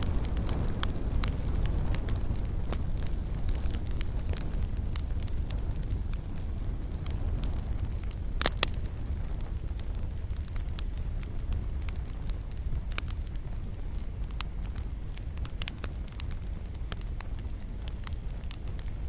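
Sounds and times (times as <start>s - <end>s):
fire popping and snapping: 0.0s - 19.0s
wood fire crackling: 0.0s - 19.0s.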